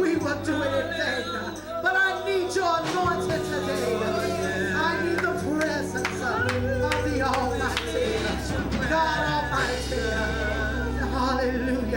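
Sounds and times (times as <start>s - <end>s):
choir singing gospel: 0.0s - 11.9s
keyboard and bass chords: 0.0s - 11.9s.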